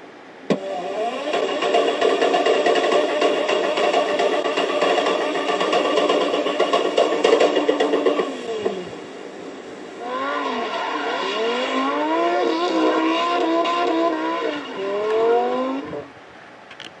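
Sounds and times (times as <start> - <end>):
car engine revving: 0.5 - 16.1.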